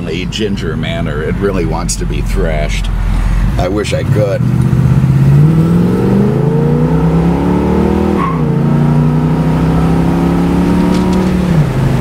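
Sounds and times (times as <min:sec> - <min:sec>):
car engine at full throttle: 0:00.0 - 0:12.0
tire chirp: 0:00.0 - 0:12.0.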